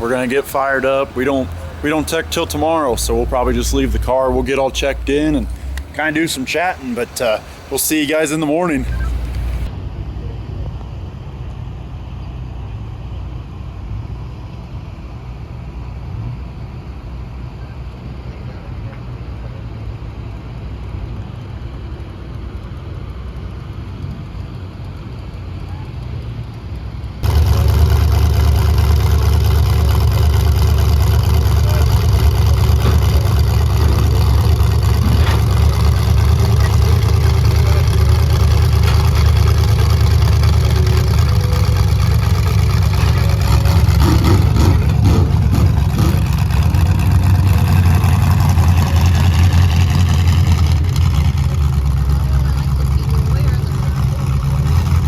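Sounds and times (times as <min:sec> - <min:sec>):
loud engine running: 0:00.0 - 0:11.6, 0:21.0 - 0:55.0.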